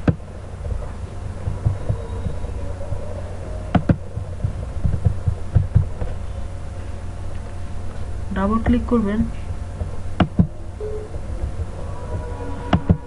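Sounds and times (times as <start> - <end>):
low electrical hum: 0.0 - 13.0
soft low thumps: 0.0 - 13.0.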